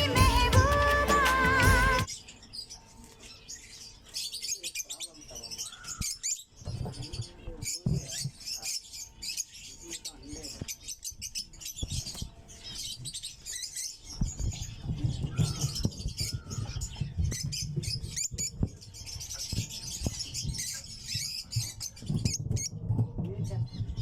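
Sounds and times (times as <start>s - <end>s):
birds chattering squeaky chirps: 0.0s - 24.0s.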